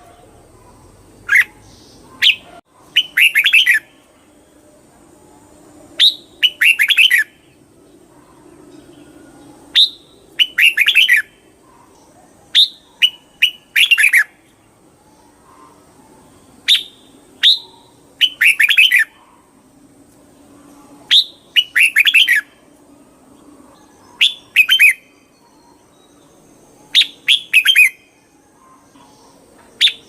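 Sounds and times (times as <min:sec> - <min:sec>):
bird singing: 0:00.0 - 0:30.0
faint low hum: 0:00.0 - 0:30.0.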